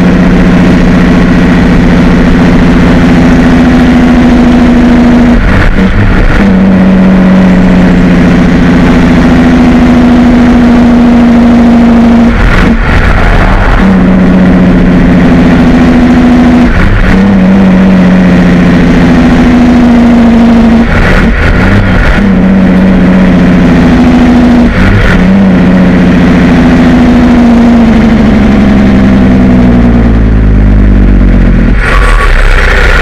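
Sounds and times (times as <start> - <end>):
truck engine shifting gears: 0.0 - 33.0.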